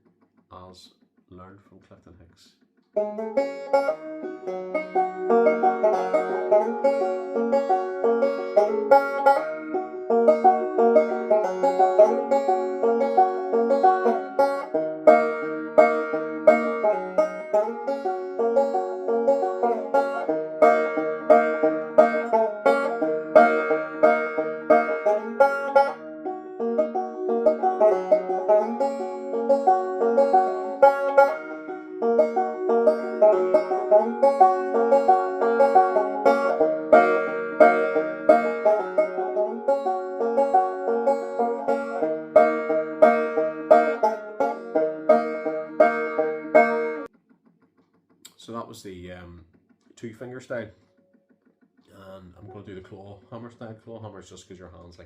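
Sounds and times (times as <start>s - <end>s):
banjo picking: 2.9s - 47.1s, 52.0s - 54.0s.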